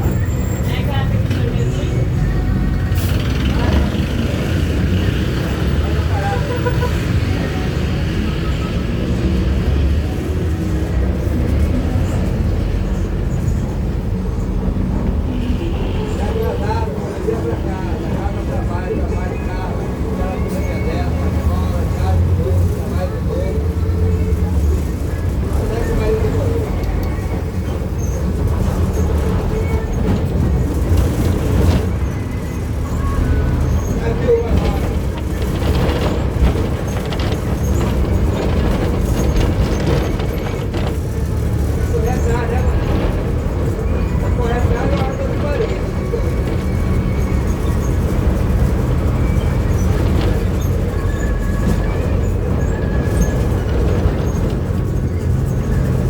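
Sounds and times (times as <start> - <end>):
bus body rattling: 0.0 - 56.0
bus engine and road rumble: 0.0 - 56.0.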